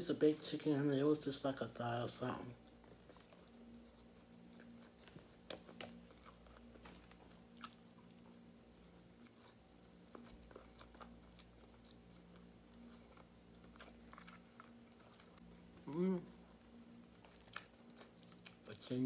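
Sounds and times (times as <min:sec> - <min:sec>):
faint low hum: 0:00.0 - 0:19.0
person chewing food: 0:02.3 - 0:18.9.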